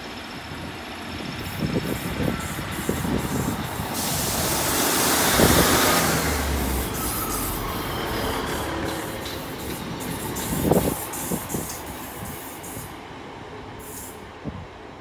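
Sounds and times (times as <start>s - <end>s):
diesel train passing: 0.0s - 15.0s.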